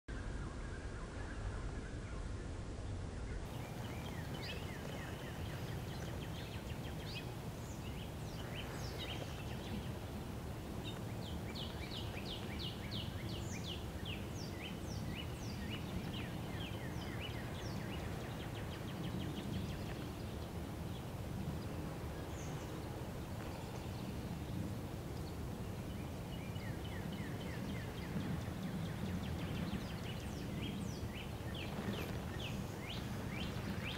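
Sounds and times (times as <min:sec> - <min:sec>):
low outdoor rumble: 0:00.1 - 0:33.9
small birds chirping: 0:00.1 - 0:33.9.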